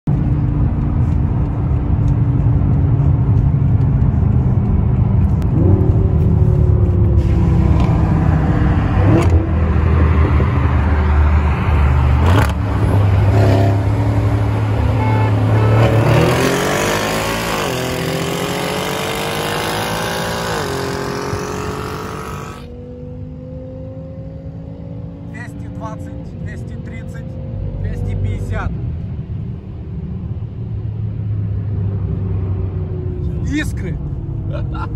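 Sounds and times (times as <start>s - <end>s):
car engine at full throttle: 0.1s - 28.4s.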